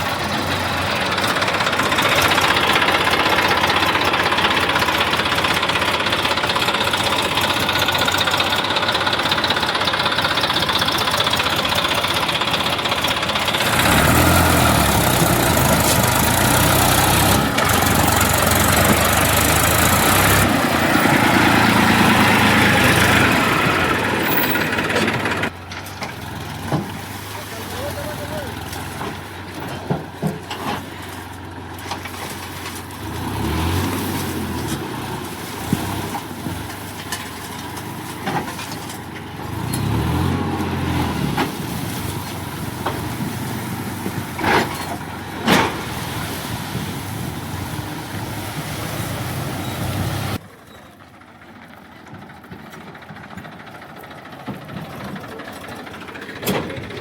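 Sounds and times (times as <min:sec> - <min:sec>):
diesel engine of heavy machinery: 0:00.0 - 0:57.0.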